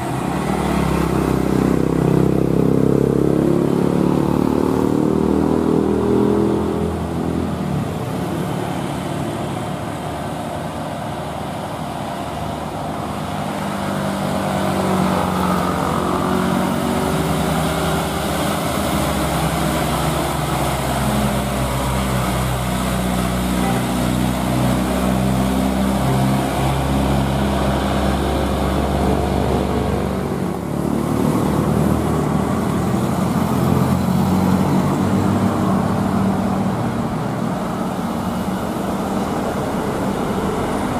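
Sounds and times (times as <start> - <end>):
diesel trucks labouring uphill: 0.0 - 40.9.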